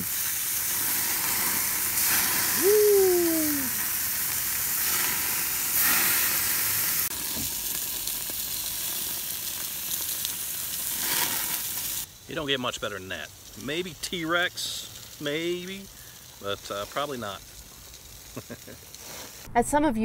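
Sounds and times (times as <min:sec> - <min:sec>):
burger patties sizzling: 0:00.0 - 0:19.5.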